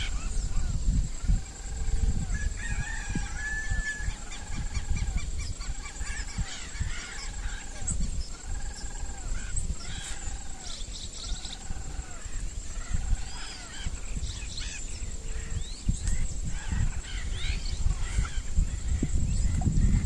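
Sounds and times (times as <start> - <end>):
birds chirping and whistling: 0.0 - 20.0
low rumble of wind on microphone: 0.0 - 20.0.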